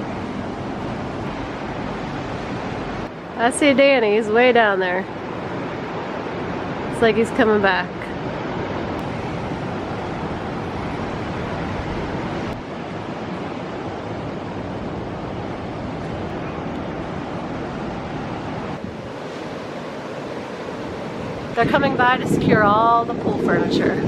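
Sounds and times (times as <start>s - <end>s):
ocean surf washing on beach: 0.0s - 24.0s
wind blowing across microphone: 0.0s - 24.0s.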